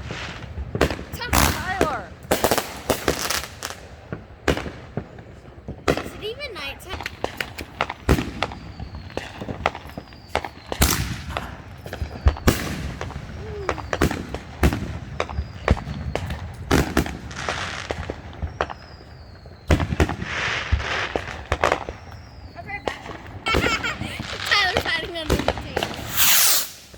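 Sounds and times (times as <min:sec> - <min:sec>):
fireworks bangs: 0:00.0 - 0:26.9
fireworks crackling bursts: 0:00.0 - 0:26.9.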